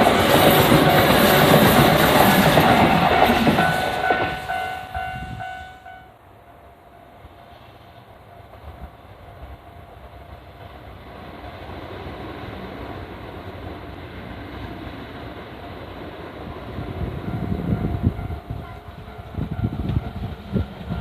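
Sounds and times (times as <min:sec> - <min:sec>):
electric train running on track: 0:00.0 - 0:21.0.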